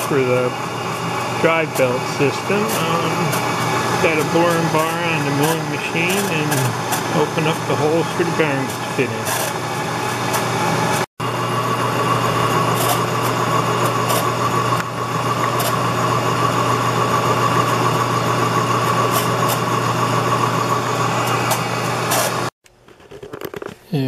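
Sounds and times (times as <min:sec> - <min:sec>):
milling machine motor hum: 0:00.0 - 0:22.5
spindle whine: 0:00.0 - 0:22.5.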